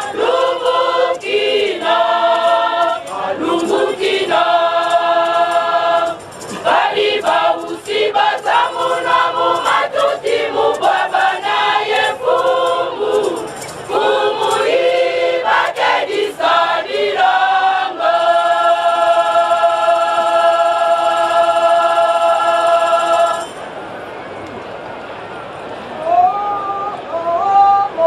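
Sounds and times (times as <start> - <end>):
women's choir singing a hymn: 0.0 - 23.6.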